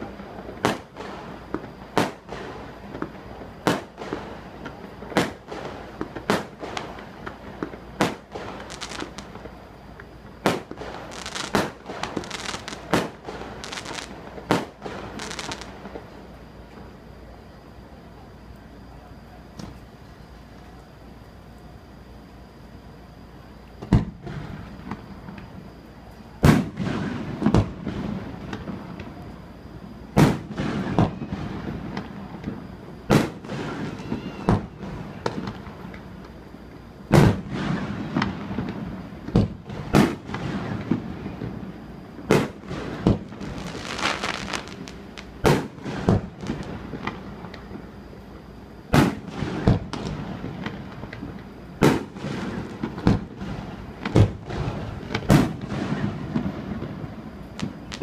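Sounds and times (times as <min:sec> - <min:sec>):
firework crackling: 0:00.0 - 0:18.6, 0:23.8 - 0:47.9, 0:48.9 - 0:58.0.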